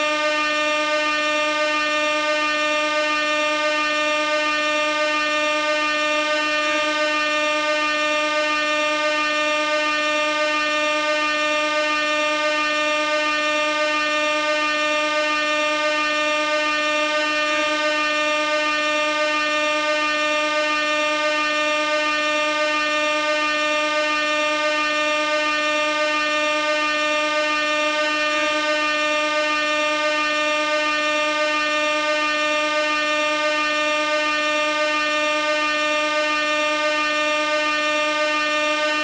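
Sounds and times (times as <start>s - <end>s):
air horn long tone: 0.0s - 39.0s.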